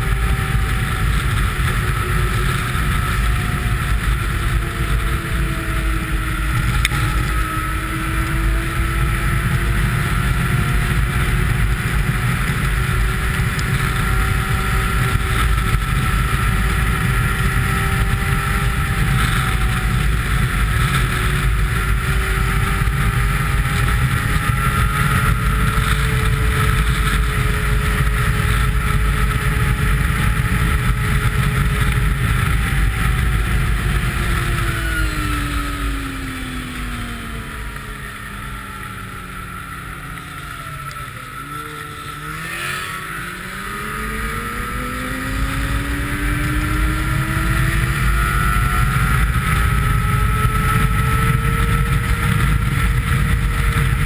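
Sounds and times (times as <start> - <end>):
snowmobile engine running: 0.0 - 54.0
wind rushing over microphone: 0.0 - 54.0.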